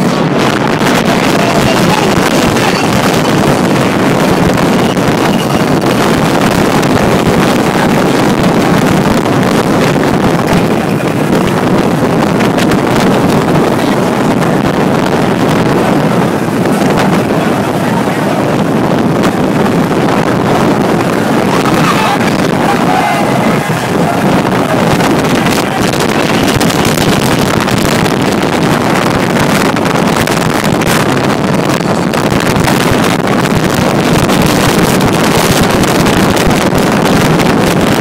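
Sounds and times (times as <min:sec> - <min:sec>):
heavy rain pouring: 0:00.0 - 0:38.0
wind buffeting microphone: 0:00.0 - 0:38.0.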